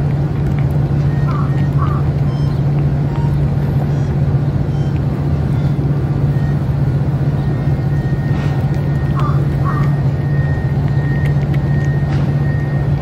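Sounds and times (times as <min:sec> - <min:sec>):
loud low engine drone: 0:00.0 - 0:13.0.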